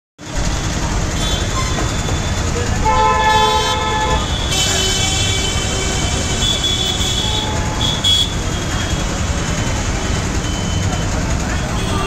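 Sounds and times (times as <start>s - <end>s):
cars passing: 0.2s - 12.0s.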